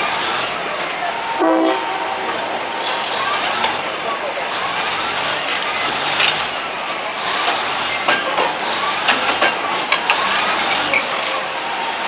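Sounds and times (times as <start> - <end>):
wheels squealing: 0.0 - 11.6
train wheels rolling on track: 0.0 - 12.0.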